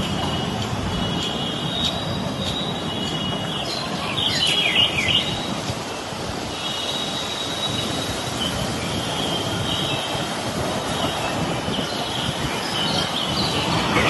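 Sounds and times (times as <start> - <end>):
strong wind rushing: 0.0 - 14.0.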